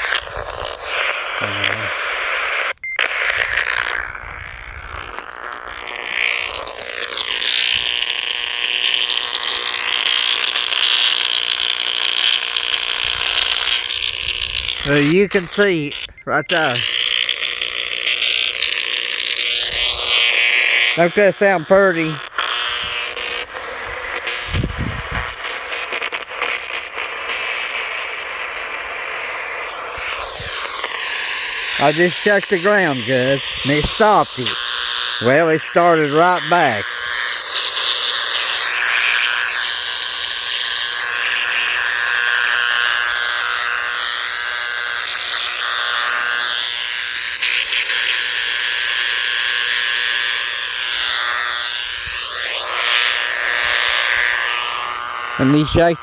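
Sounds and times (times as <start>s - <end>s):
radio interference buzz: 0.0s - 56.0s.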